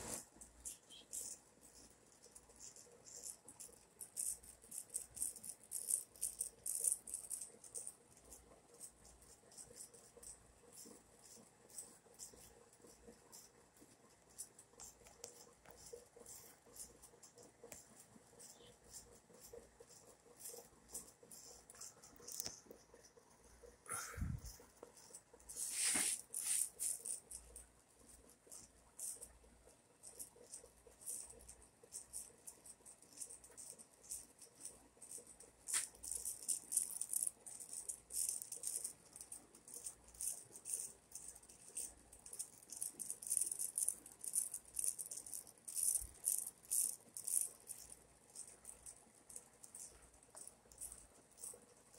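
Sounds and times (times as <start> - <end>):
ceiling fan motor rattling: 0.0 - 51.9.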